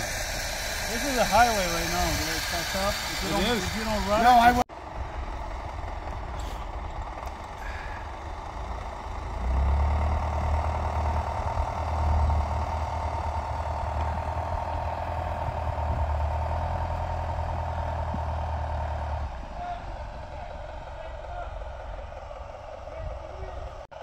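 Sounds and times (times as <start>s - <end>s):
deep engine note under load: 0.0s - 23.9s.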